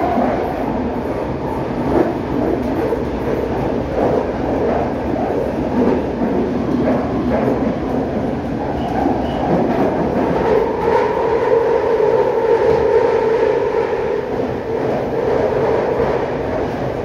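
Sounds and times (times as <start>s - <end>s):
train rumbling in tunnel: 0.0s - 17.0s.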